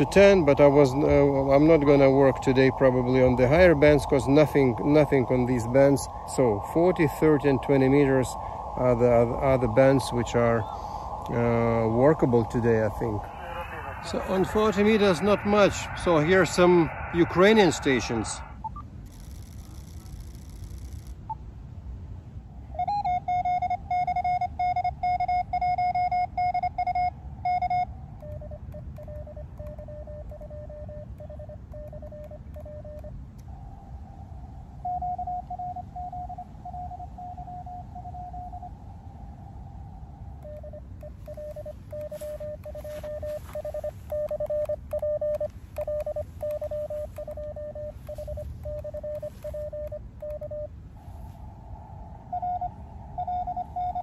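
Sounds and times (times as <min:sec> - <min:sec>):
morse code beeps: 0:00.0 - 0:21.4, 0:22.8 - 0:33.4, 0:34.7 - 0:38.8, 0:40.2 - 0:51.4, 0:52.0 - 0:54.0
static crackles: 0:00.0 - 0:21.4, 0:24.1 - 0:54.0
receiver hiss: 0:00.0 - 0:21.5, 0:22.7 - 0:54.0.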